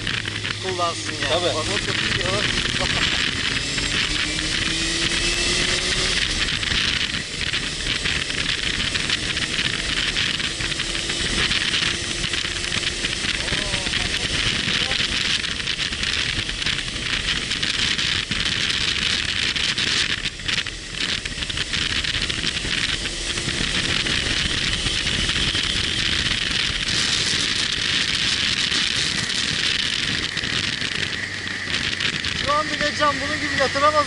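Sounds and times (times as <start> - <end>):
motorcycle engine and road rumble: 0.0 - 34.0
wind rushing over microphone: 0.0 - 34.0.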